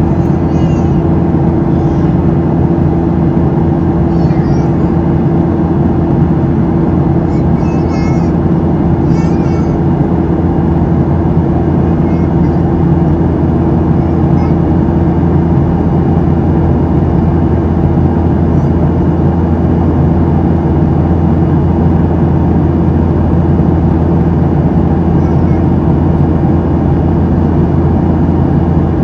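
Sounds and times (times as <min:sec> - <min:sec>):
steady low tones: 0:00.0 - 0:28.9
airflow rush: 0:00.0 - 0:29.0
jet engine buzz: 0:00.0 - 0:29.0.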